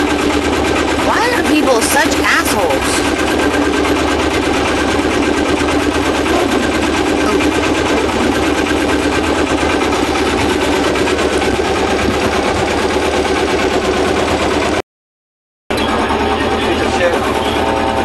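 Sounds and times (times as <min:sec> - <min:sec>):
boat engine clattering: 0:00.0 - 0:14.8, 0:15.7 - 0:18.0.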